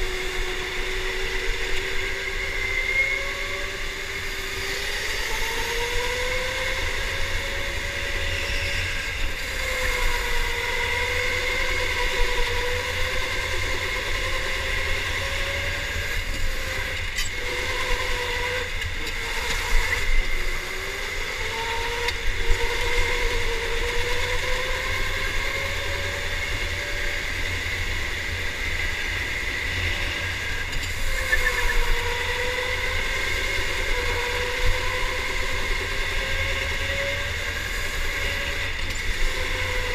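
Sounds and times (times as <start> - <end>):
electric go-kart motor whining: 0.0 - 39.9.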